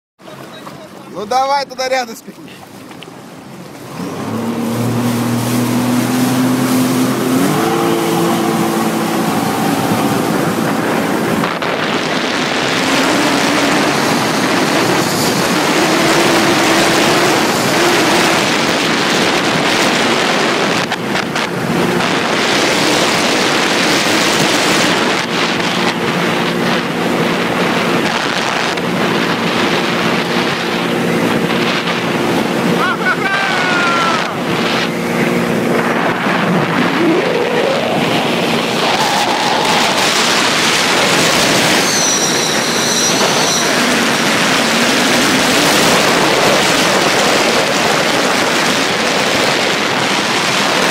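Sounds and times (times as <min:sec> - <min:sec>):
rush of wind and water: 0:00.2 - 0:50.9
watercraft engine running: 0:00.2 - 0:50.9.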